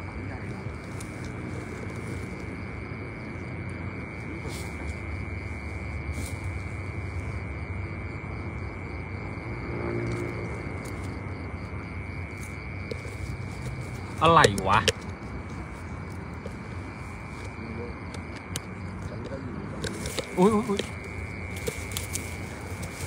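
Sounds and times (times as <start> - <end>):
continuous rushing noise: 0.0 - 23.0
crickets trilling: 0.0 - 23.0.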